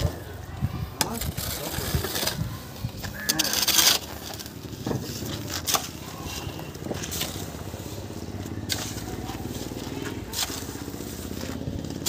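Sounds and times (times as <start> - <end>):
loud scraping rustle: 0.2 - 12.0.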